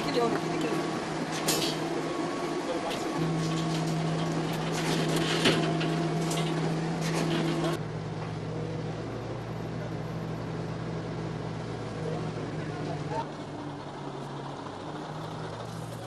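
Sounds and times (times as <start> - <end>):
machinery engine hum: 0.0 - 16.0.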